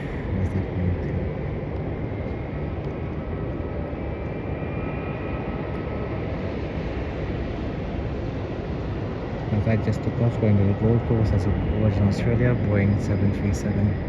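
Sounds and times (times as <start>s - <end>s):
faint high engine whine: 0.0s - 14.0s
jet engine rumble: 0.0s - 14.0s.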